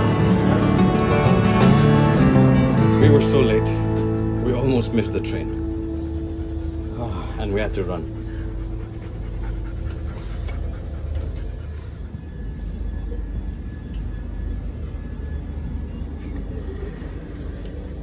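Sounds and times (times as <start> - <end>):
moving train rumble: 0.0 - 18.0.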